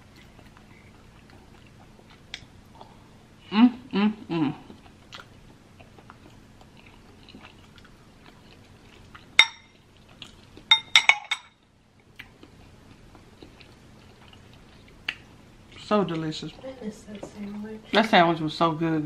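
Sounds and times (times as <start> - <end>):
soft chewing: 0.0 - 3.3, 4.5 - 10.8, 11.6 - 18.3.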